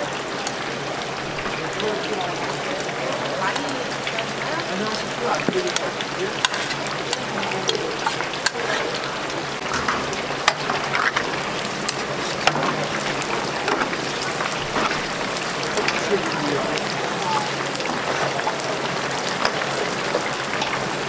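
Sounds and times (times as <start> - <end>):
oil sizzling and popping: 0.0 - 21.0.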